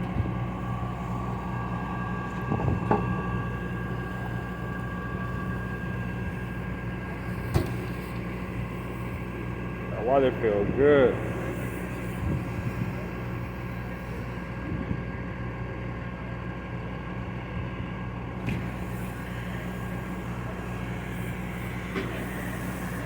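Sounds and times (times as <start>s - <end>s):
engine idling drone: 0.0s - 23.0s.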